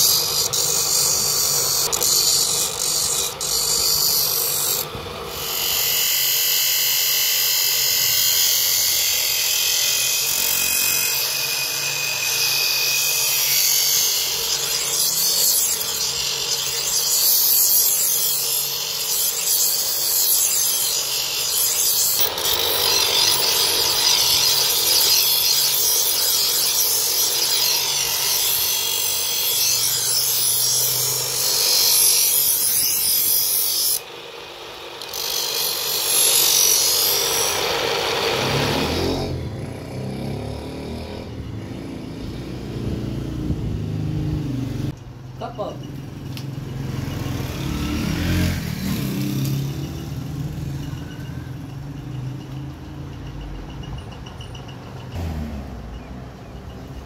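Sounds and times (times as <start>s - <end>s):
grinder wheel grinding steel: 0.0s - 57.0s.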